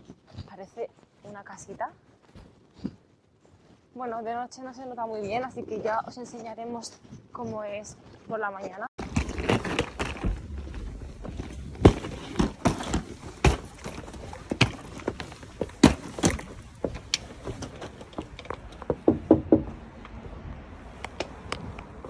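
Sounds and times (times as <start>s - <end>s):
footsteps on outdoor steps: 0.0s - 22.0s.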